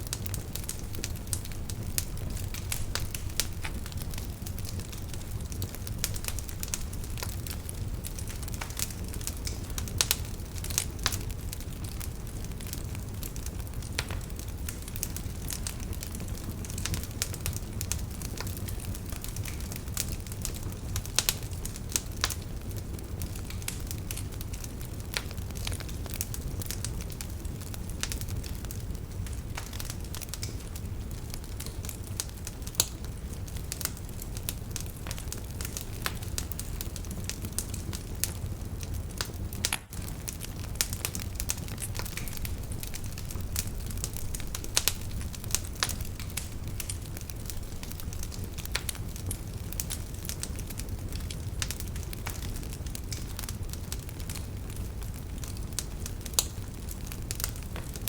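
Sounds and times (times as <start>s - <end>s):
fire popping and snapping: 0.0s - 58.0s
low rumble of flame: 0.0s - 58.0s.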